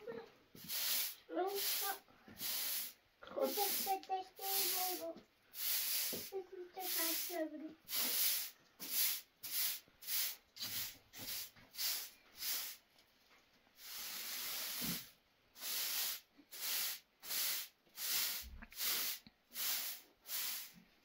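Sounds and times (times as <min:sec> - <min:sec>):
broom sweeping floor: 0:00.0 - 0:21.0.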